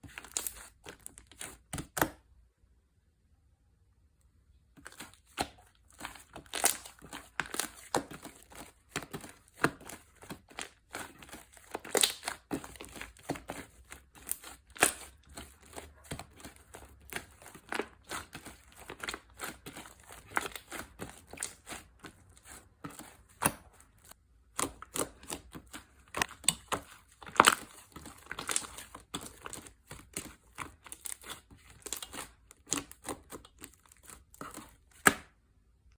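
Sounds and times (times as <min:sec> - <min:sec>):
slime squished by hand: 0:04.8 - 0:35.4.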